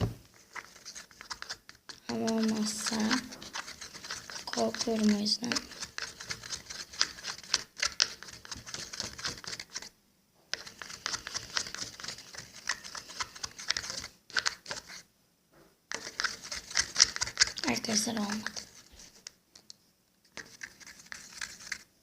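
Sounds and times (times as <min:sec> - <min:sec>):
spoon stirring slime in a bowl: 0:00.0 - 0:09.9, 0:10.5 - 0:15.1, 0:15.9 - 0:21.9.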